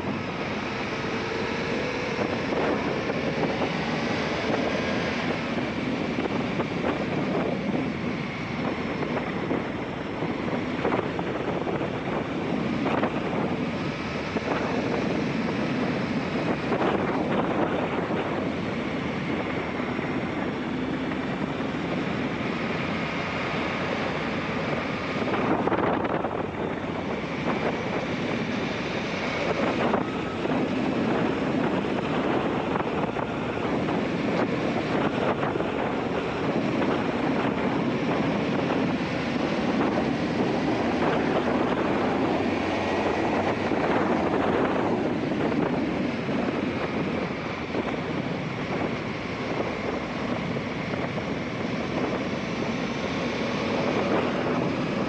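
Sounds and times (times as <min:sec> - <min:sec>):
wind buffeting camera microphone: 0:00.0 - 0:55.0.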